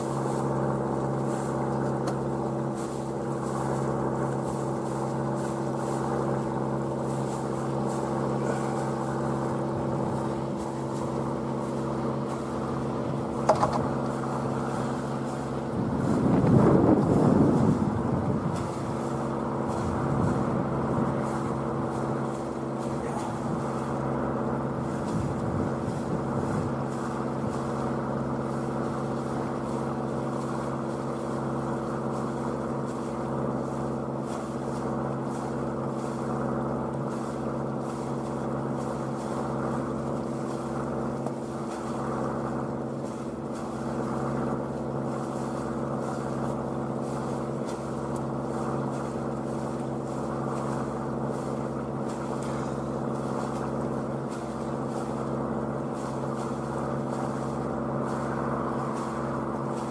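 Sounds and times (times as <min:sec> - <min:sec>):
boat motor running: 0:00.0 - 0:59.9.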